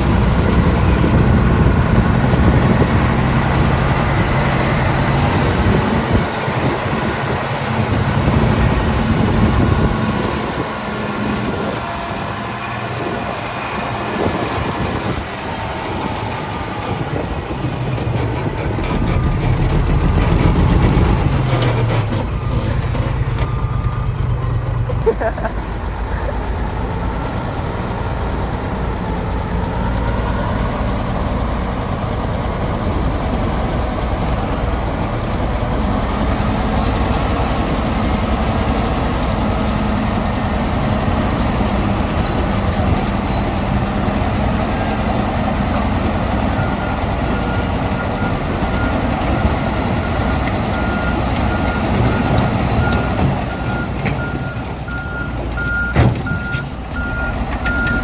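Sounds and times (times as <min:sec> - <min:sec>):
diesel construction machinery running: 0:00.0 - 0:58.0
truck reversing alarm beeping: 0:00.0 - 0:58.0.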